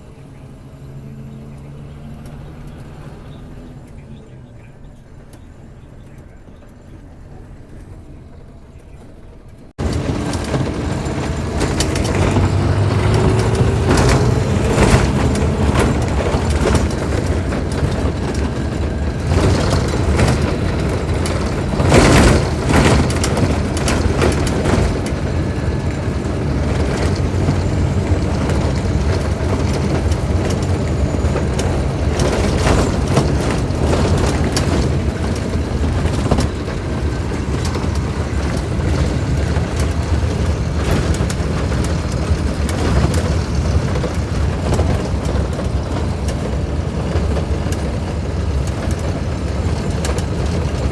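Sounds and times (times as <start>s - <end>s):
diesel bus engine running: 0.0s - 50.9s
knocks and rattles: 7.7s - 50.9s.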